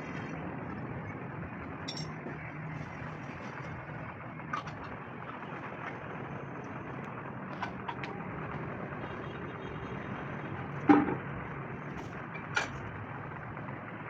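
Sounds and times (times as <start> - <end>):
workshop background rumble: 0.0 - 14.0.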